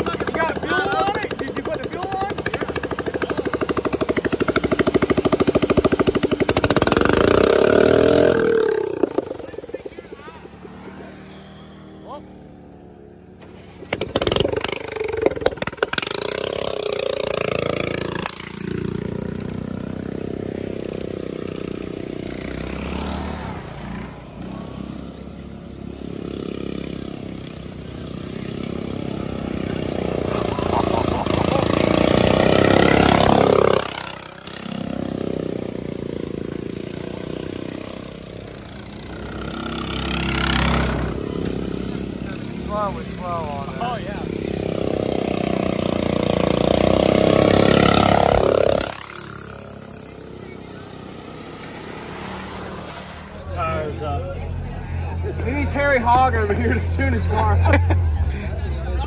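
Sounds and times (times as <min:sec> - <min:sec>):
lawn mower engines revving: 0:00.0 - 0:59.0.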